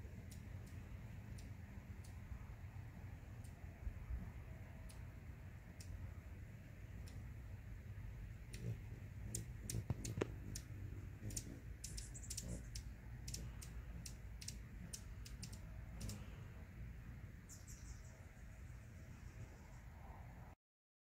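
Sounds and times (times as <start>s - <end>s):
hummingbird chip notes: 0.0s - 19.8s
low steady rumble: 0.0s - 20.6s
hummingbird chattering: 0.1s - 3.7s, 4.7s - 19.9s.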